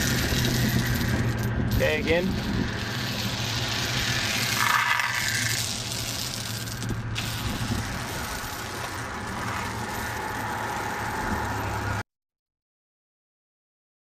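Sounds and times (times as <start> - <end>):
chain dragging on concrete: 0.0 - 12.0.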